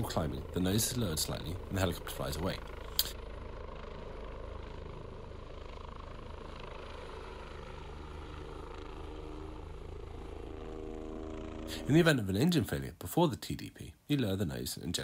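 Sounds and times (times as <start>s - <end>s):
helicopter rotor noise: 0.0s - 12.8s.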